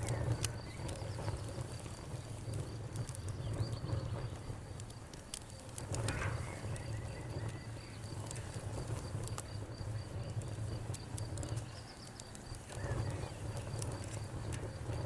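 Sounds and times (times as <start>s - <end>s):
crickets chirping: 0.0s - 15.0s
wood fire crackling and popping: 0.0s - 15.0s.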